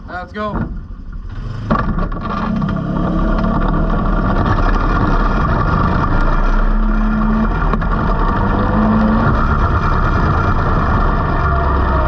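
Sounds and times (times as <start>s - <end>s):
engines running: 0.8s - 12.0s.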